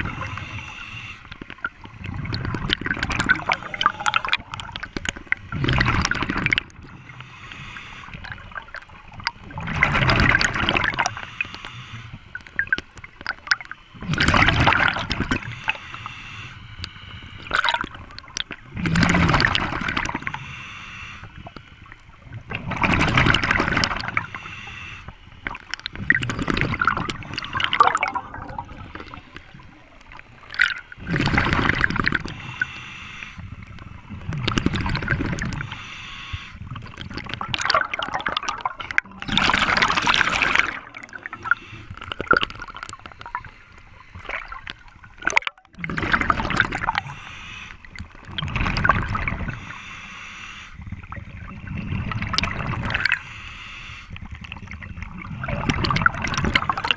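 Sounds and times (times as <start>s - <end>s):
air bubbles gurgling: 0.0s - 0.6s, 1.3s - 7.2s, 8.0s - 11.3s, 12.3s - 15.9s, 16.9s - 20.4s, 21.5s - 24.4s, 25.4s - 32.6s, 33.5s - 35.8s, 36.5s - 47.2s, 47.8s - 49.8s, 50.8s - 53.2s, 54.2s - 56.9s
regulator breathing underwater: 0.0s - 1.4s, 2.0s - 12.6s, 13.5s - 37.0s, 39.2s - 45.2s, 45.8s - 56.9s.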